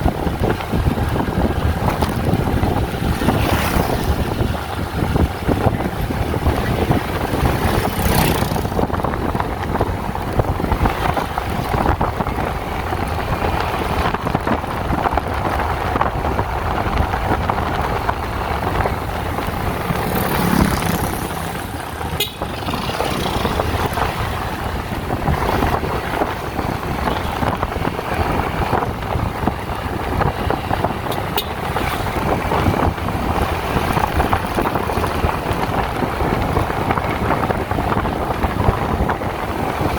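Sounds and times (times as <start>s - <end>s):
moving vehicle rumble: 0.0s - 39.9s
wind buffeting microphone: 0.0s - 39.9s.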